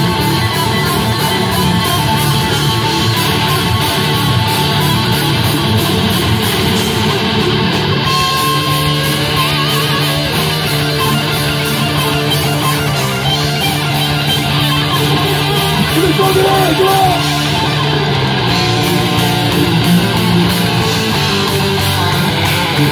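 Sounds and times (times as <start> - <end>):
bass guitar: 0.0 - 22.9
drum kit: 0.0 - 22.9
electric guitar: 0.0 - 22.9.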